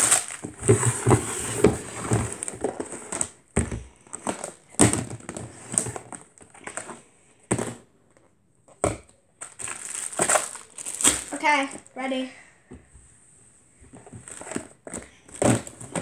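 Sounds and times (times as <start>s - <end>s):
plastic containers knocking and clattering: 0.0s - 11.9s, 13.8s - 16.0s.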